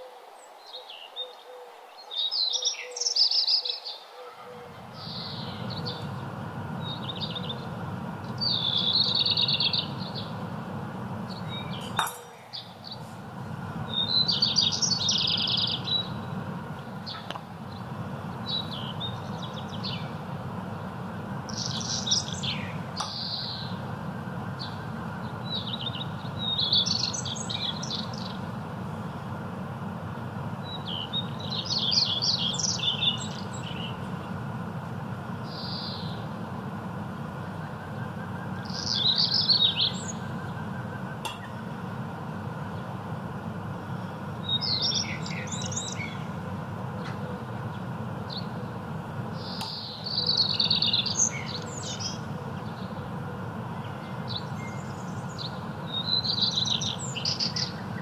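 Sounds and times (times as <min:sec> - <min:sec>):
small birds chirping: 0:00.0 - 0:58.0
steady low hum: 0:04.2 - 0:58.0.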